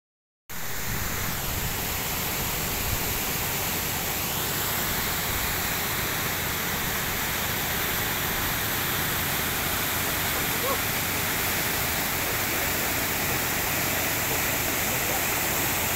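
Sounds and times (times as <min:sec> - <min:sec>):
river flowing over rocks: 0:00.6 - 0:15.9.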